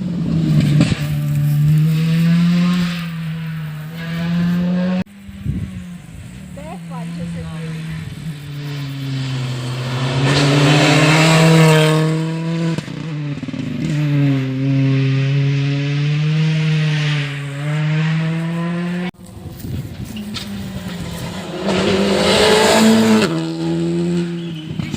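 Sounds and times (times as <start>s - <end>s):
rally car engine at high revs: 0.0s - 19.1s, 20.0s - 24.9s.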